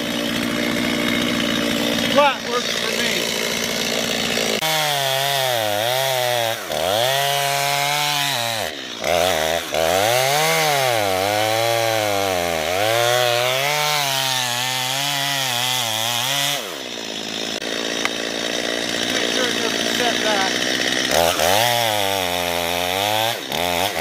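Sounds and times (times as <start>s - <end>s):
chainsaw cutting tree trunk: 0.0s - 24.0s.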